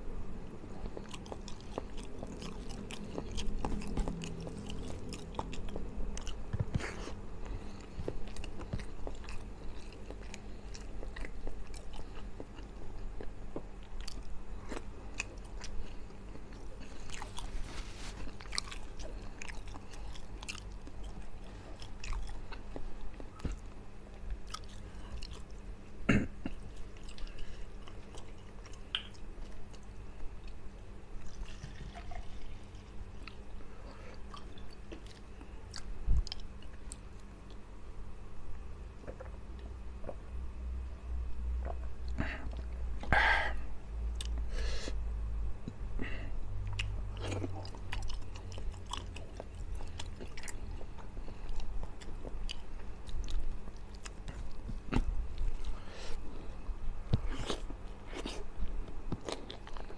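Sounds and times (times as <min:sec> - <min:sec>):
chewing food: 0:00.7 - 0:25.7, 0:26.5 - 0:37.6, 0:46.6 - 0:59.9.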